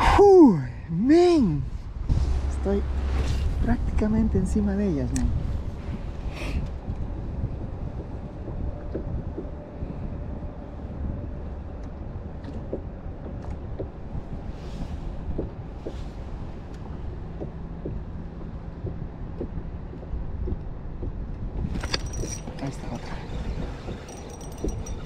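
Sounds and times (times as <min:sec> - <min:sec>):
wind rumbling on microphone: 0:01.6 - 0:25.0.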